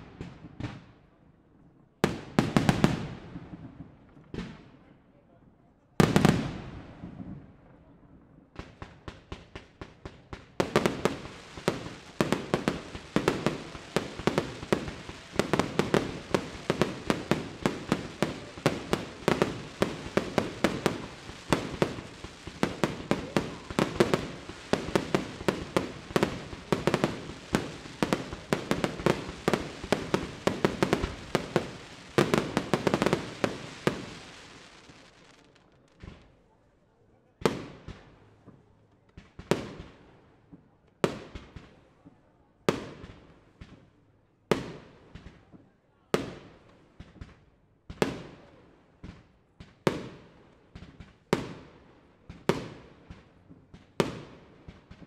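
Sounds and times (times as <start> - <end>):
fireworks bangs and crackle: 0.0 - 1.2, 2.0 - 5.0, 5.9 - 36.5, 37.3 - 55.0.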